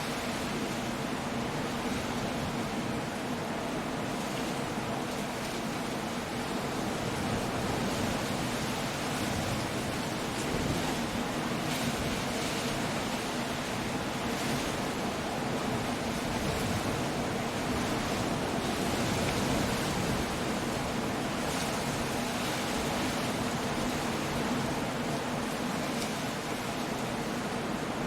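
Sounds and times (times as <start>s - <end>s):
rain: 0.0s - 28.0s
surf: 0.0s - 28.0s.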